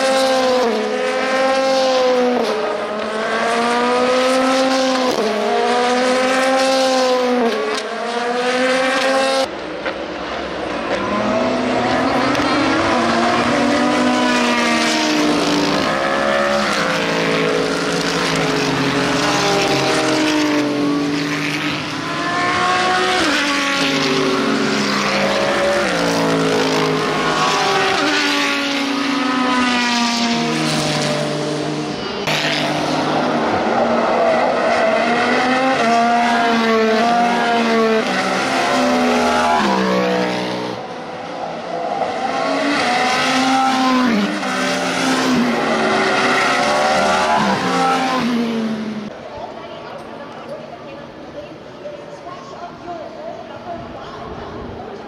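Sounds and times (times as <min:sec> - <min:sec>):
race car engines passing: 0:00.0 - 0:55.0.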